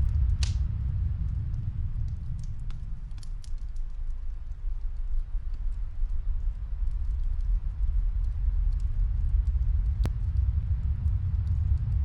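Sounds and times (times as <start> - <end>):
snowstorm wind gusting: 0.0 - 4.4, 5.2 - 12.0
wood fire crackling: 0.0 - 12.0.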